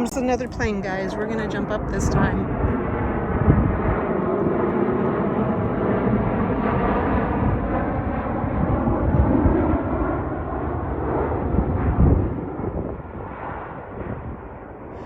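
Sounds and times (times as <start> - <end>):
passenger jet flying overhead: 0.0 - 15.0.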